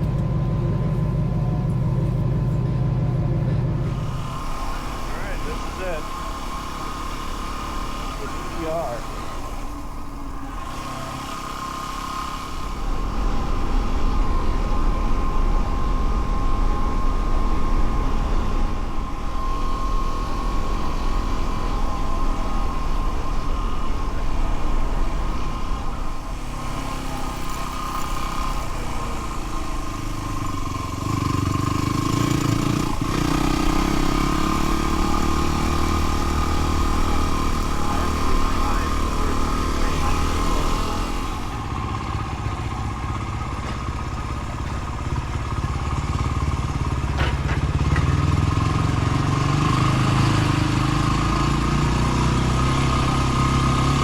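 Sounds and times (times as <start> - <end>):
dirt bike engine revving: 3.5 - 54.0.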